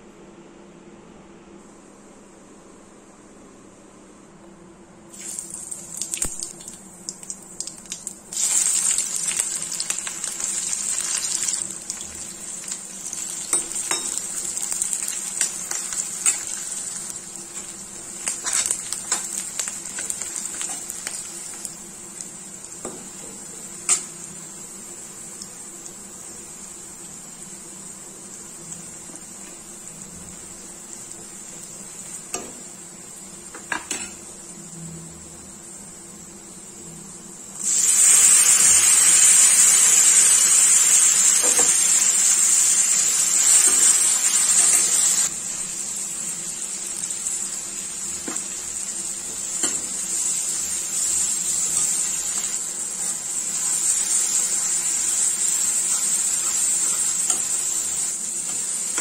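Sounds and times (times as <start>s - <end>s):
loud sizzle: 5.1s - 59.0s
onions frying in oil: 5.1s - 59.0s.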